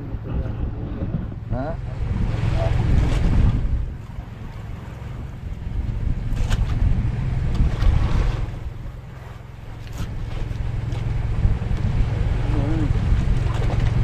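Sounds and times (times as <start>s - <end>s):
sea noise: 0.0s - 14.0s
steady low rumble: 0.0s - 14.0s
wind buffeting microphone: 0.0s - 14.0s.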